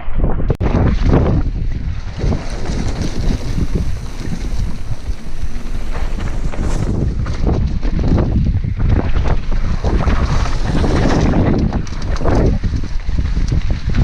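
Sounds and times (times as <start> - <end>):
wind buffeting microphone: 0.0 - 14.0
bike rattling and knocking: 0.7 - 14.0.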